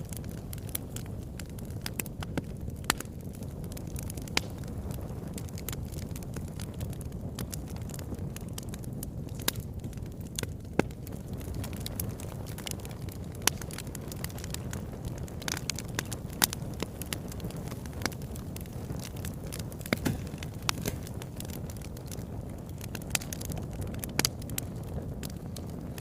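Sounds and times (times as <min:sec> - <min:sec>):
fire low rumble: 0:00.0 - 0:26.0
logs crackling and popping: 0:00.0 - 0:26.0.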